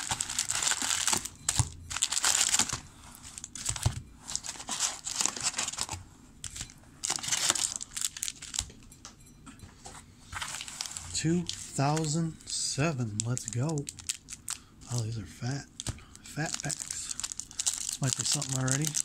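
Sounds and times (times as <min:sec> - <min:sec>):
foil card packs crinkling: 0:00.0 - 0:08.7, 0:10.4 - 0:19.0.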